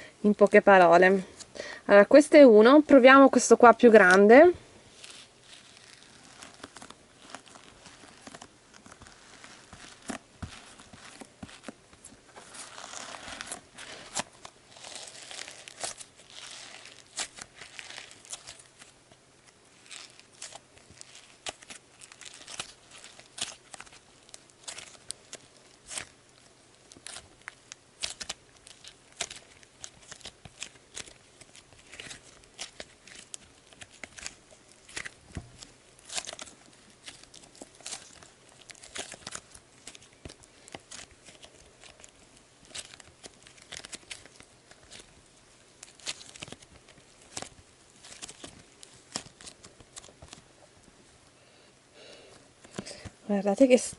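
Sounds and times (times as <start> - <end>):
slime crackling as squeezed: 4.0 - 51.0.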